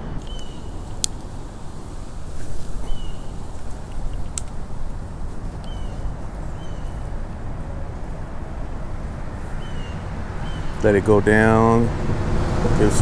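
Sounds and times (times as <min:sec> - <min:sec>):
distant low rumble: 0:00.0 - 0:13.0.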